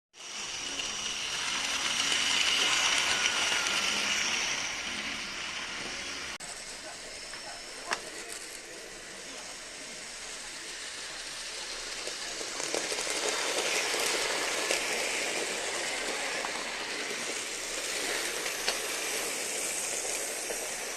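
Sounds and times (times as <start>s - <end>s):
toy train wheels rattling: 0.2s - 6.3s, 7.4s - 20.9s
toy train motor whirring: 0.2s - 20.9s.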